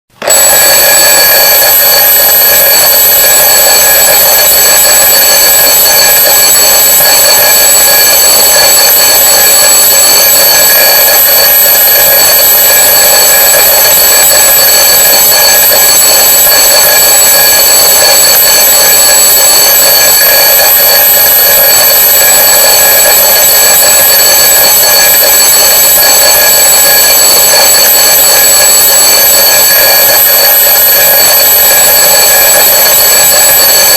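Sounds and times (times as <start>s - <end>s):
twin-bell alarm clock ringing: 0.2s - 33.9s.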